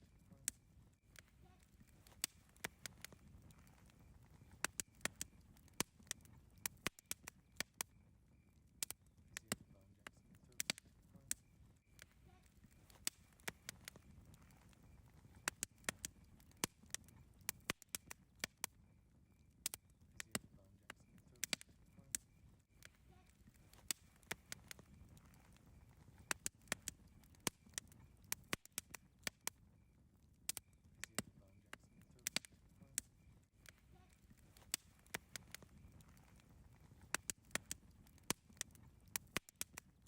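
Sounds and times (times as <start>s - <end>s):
campfire crackling and popping: 0.0s - 40.0s
low rumble of burning fire: 0.0s - 40.0s.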